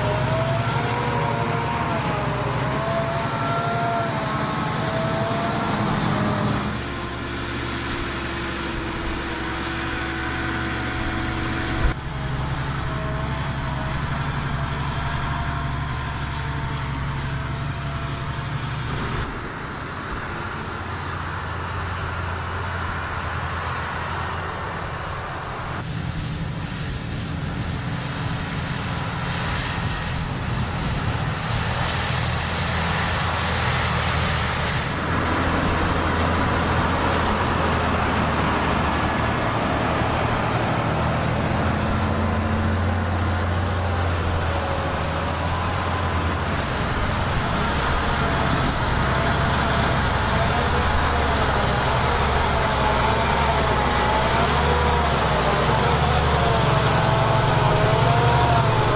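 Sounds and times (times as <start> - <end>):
tractor diesel engines under load: 0.0 - 58.9.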